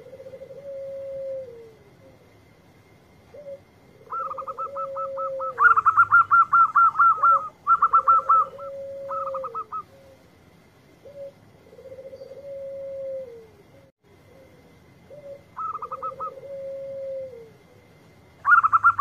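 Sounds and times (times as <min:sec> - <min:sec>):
dove cooing in short clipped notes: 0:00.0 - 0:02.2, 0:03.3 - 0:10.2, 0:11.0 - 0:17.7
low drawn-out dove coo: 0:00.0 - 0:02.5, 0:03.2 - 0:19.0.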